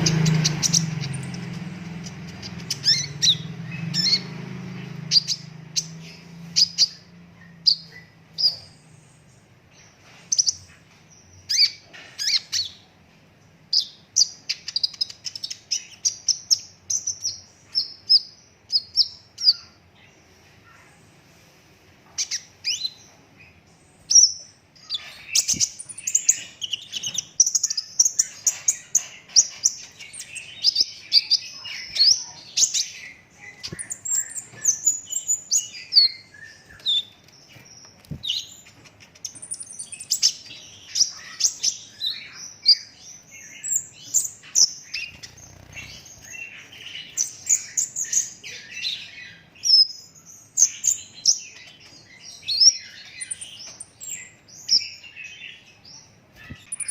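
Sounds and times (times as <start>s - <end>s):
sunbird chirping and trilling: 0.0s - 21.3s, 22.0s - 56.9s.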